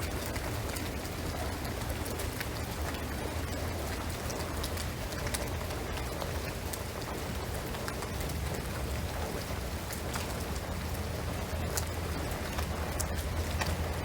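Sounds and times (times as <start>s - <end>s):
rain on a roof and trees: 0.0s - 14.0s.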